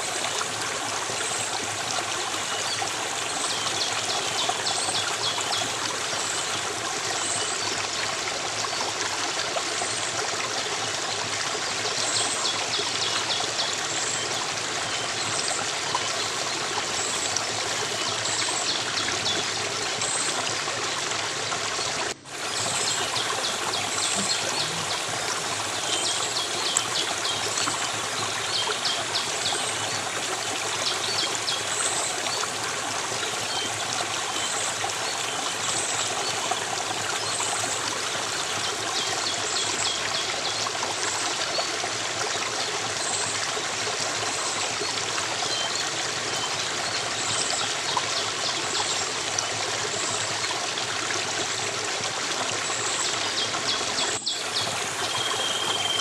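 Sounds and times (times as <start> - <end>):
stream water trickling and splashing: 0.0 - 56.0.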